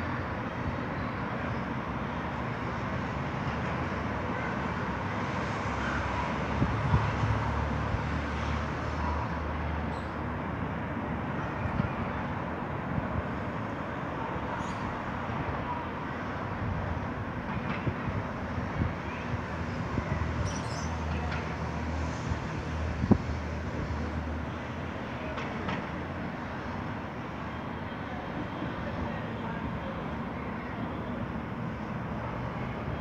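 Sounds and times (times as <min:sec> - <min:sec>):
cars passing on road: 0:00.0 - 0:33.0.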